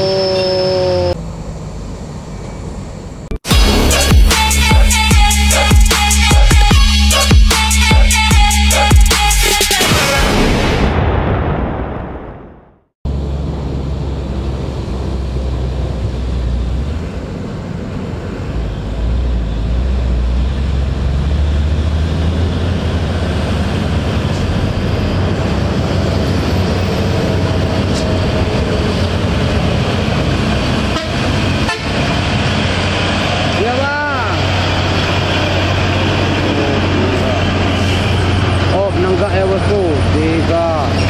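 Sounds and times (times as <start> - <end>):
diesel truck engine running: 0.0 - 9.5, 13.1 - 41.0.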